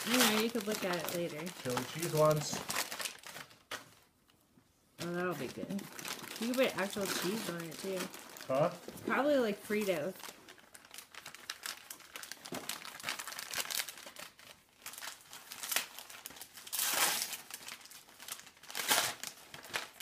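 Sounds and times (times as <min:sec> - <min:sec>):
wrapping paper crinkling and tearing: 0:00.0 - 0:04.1, 0:05.0 - 0:20.0.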